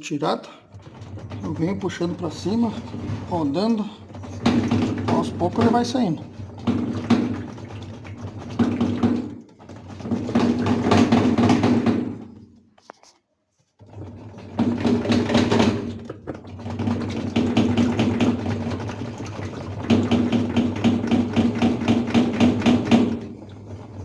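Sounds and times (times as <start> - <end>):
plastic agitator grinding and scraping: 0.0 - 24.0.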